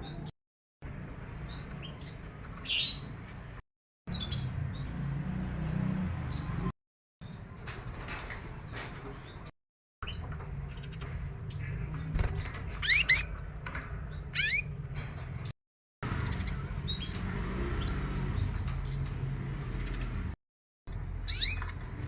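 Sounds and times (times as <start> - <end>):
canaries chirping: 1.0 - 22.0.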